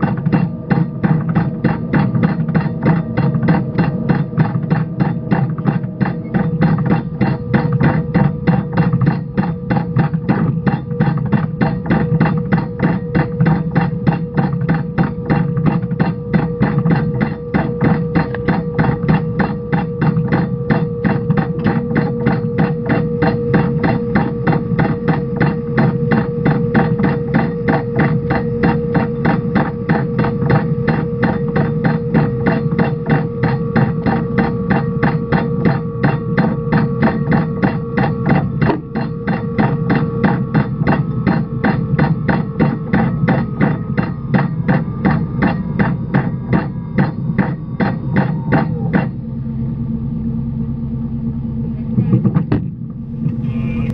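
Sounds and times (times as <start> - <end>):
boat engine knocking: 0.0 - 49.4, 52.0 - 53.9
low steady hum: 0.0 - 53.9.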